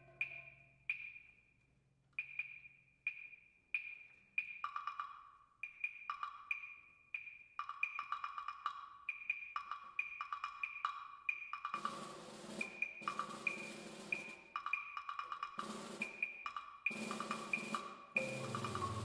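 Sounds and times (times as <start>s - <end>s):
high-pitched wood block: 0.0s - 1.4s, 2.2s - 12.0s, 12.6s - 19.0s
lower-pitched wood block: 2.2s - 19.0s.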